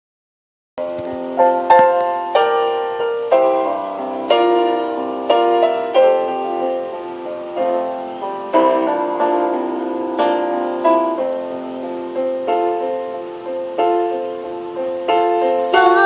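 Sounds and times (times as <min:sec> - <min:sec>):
soft piano chords: 0:00.8 - 0:16.0.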